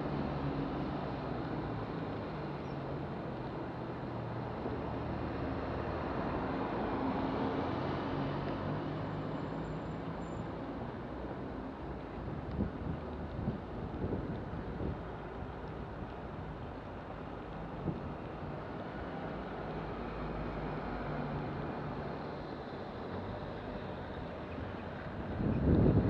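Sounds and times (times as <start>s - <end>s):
traffic noise: 0.0s - 26.0s
vehicles passing on wet road: 0.0s - 26.0s.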